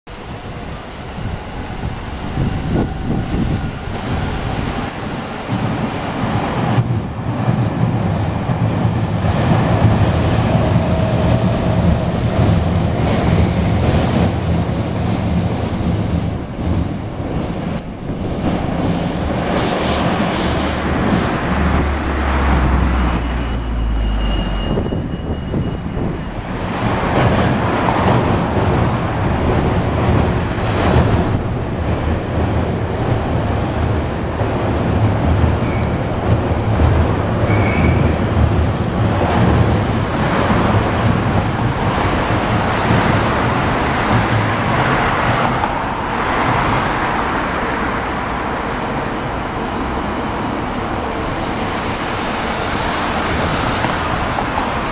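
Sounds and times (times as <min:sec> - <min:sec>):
road traffic: 0:00.0 - 0:54.9
wind buffeting microphone: 0:00.1 - 0:23.6, 0:24.3 - 0:54.9
electric trains passing: 0:00.1 - 0:54.9.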